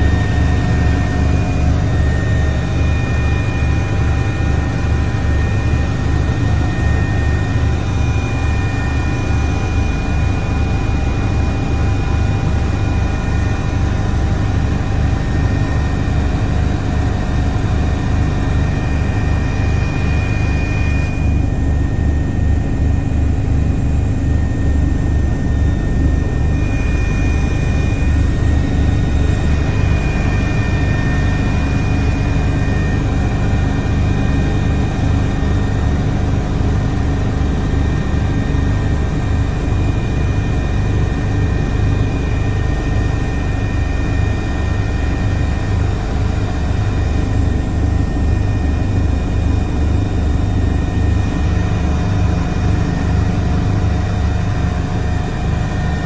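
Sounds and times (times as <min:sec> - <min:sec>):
helicopter rotor beat: 0:00.0 - 0:56.0.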